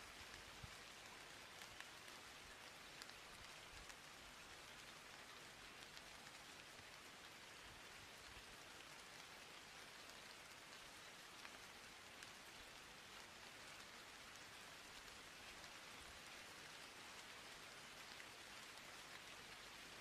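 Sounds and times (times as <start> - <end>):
faint hiss with crackle: 0.0 - 20.0.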